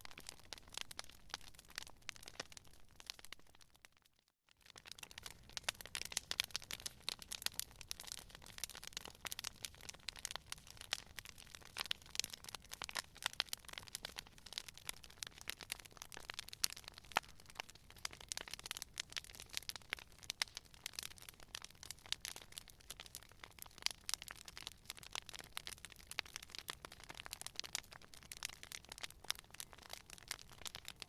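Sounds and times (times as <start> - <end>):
campfire crackling: 0.0 - 3.7, 4.5 - 31.0.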